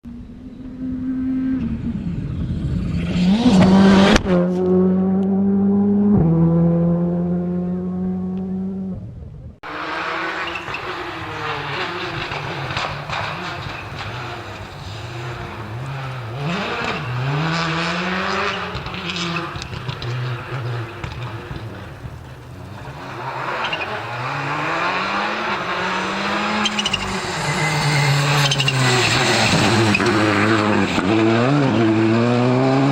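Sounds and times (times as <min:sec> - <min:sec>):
rally car passing at speed: 0:00.6 - 0:09.0, 0:09.6 - 0:32.9
rally car engine revving: 0:00.6 - 0:32.9.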